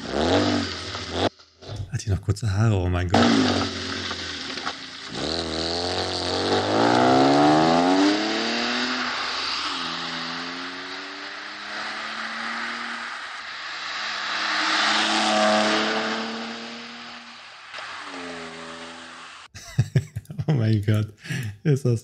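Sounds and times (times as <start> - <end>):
car engine revving: 0.0 - 1.9, 2.6 - 19.5.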